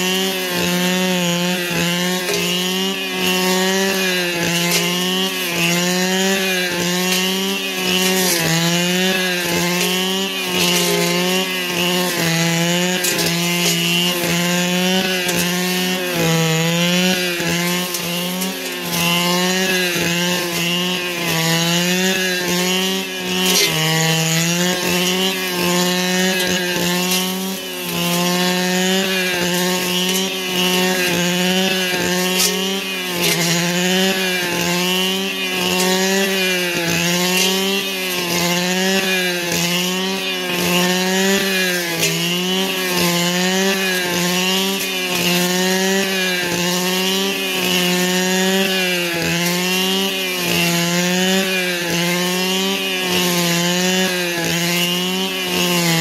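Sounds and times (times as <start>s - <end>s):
brush cutter engine at high revs: 0.0s - 56.0s.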